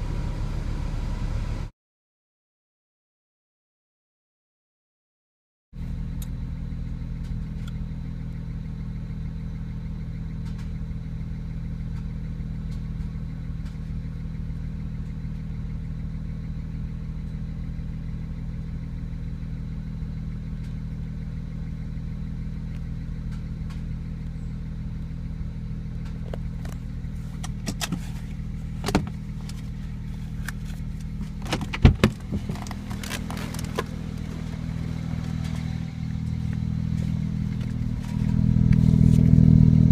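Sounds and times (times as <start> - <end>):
car engine idling: 0.0 - 1.7, 5.8 - 39.9.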